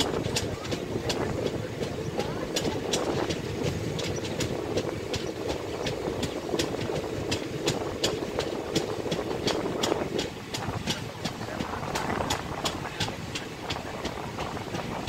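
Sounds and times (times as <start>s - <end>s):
train wheels rumbling on rail: 0.0s - 15.0s
wheels clickety-clack: 0.0s - 15.0s.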